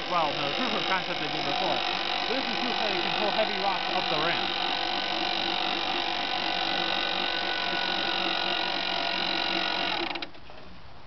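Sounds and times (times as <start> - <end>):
electric winch whining: 0.0 - 10.3.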